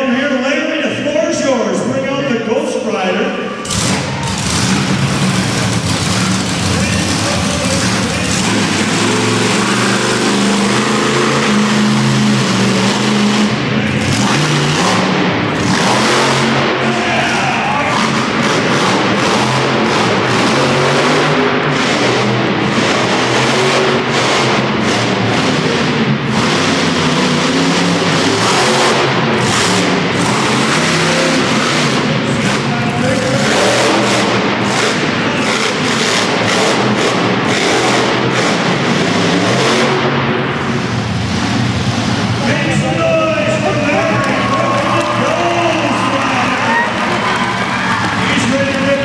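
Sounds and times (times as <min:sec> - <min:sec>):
monster truck engine revving: 0:00.0 - 0:49.0.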